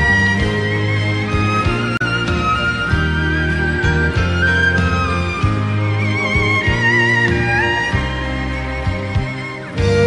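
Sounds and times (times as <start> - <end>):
held melody line: 0.0 - 10.0.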